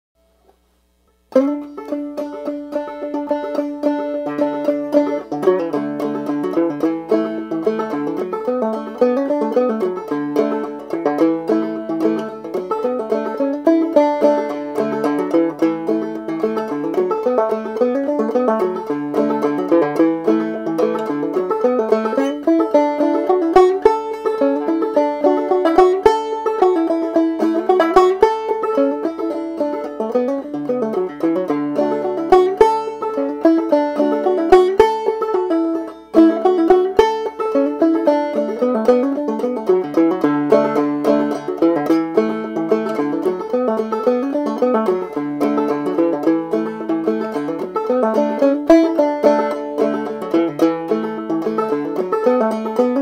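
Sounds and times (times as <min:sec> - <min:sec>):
banjo playing clawhammer style: 0:01.2 - 0:53.0.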